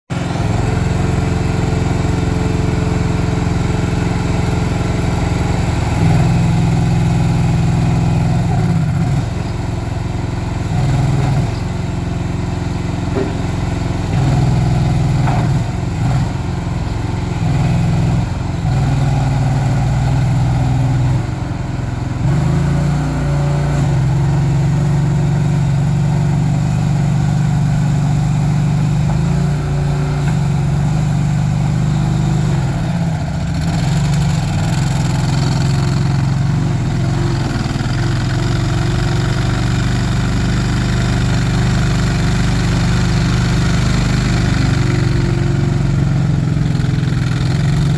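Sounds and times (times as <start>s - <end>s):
loader engine running: 0.1s - 47.9s.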